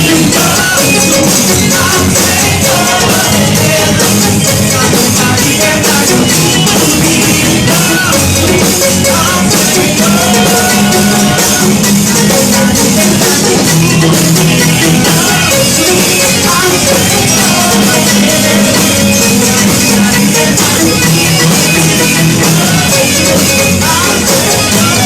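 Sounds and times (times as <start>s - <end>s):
people singing: 0.0s - 25.0s
rock worship band playing: 0.0s - 25.0s.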